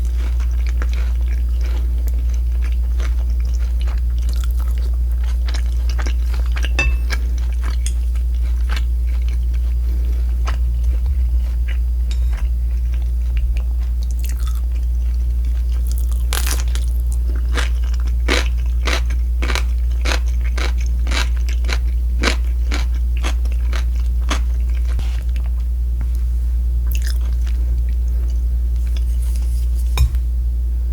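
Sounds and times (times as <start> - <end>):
crunchy chewing: 0.0 - 30.0
steady low hum: 0.0 - 30.9.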